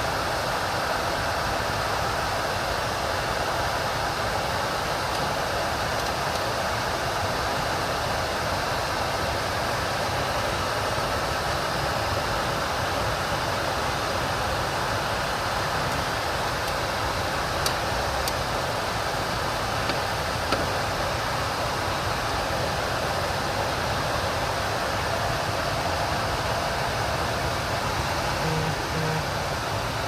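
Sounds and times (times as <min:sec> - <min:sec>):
blower fan blowing air: 0:00.0 - 0:30.0.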